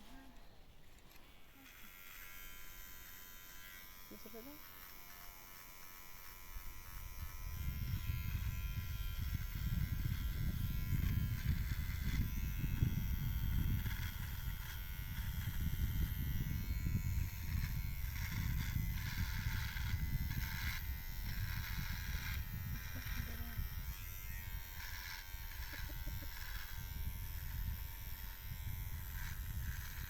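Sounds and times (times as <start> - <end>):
electric hair clippers buzzing: 1.1 - 30.0.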